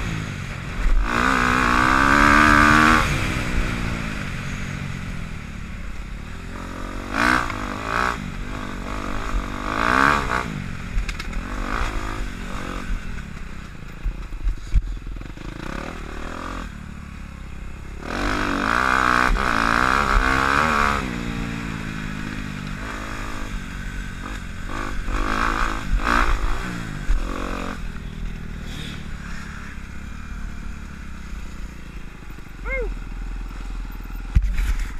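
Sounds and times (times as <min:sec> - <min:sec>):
dirt bike engine revving: 0:00.0 - 0:04.7, 0:06.4 - 0:13.0, 0:15.2 - 0:16.9, 0:18.0 - 0:32.9.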